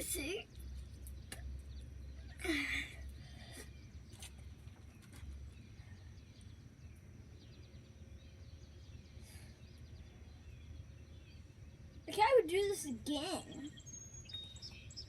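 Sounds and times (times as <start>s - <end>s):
faint bird chirps: 0.0s - 12.2s, 12.9s - 15.0s.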